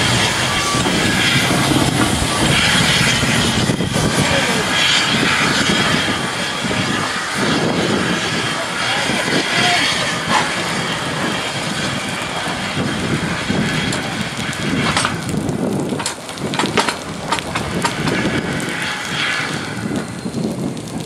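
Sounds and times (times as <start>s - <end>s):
steam locomotive hiss and exhaust: 0.0s - 15.2s, 16.0s - 20.7s.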